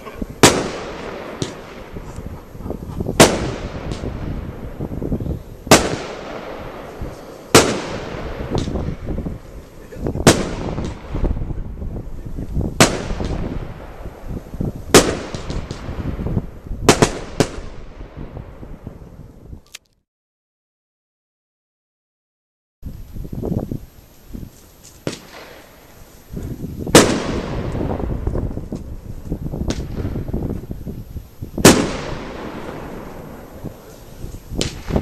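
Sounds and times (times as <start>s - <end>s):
fireworks pops and crackle: 0.0s - 11.6s, 12.2s - 18.2s, 24.4s - 35.0s
fireworks bangs: 0.0s - 19.1s, 24.8s - 35.0s.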